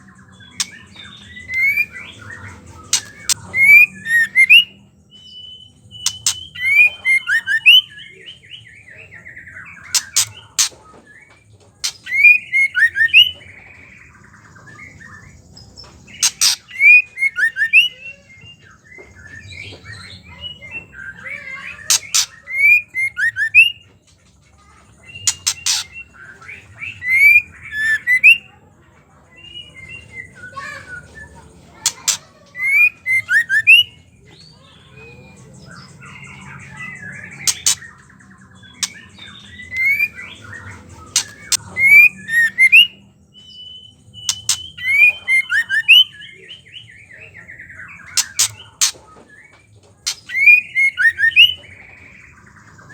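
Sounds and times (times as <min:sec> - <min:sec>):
bird chattering and rattling calls: 0:00.0 - 0:05.2, 0:05.9 - 0:07.9, 0:09.3 - 0:18.2, 0:19.1 - 0:28.5, 0:29.2 - 0:46.7, 0:47.4 - 0:52.9.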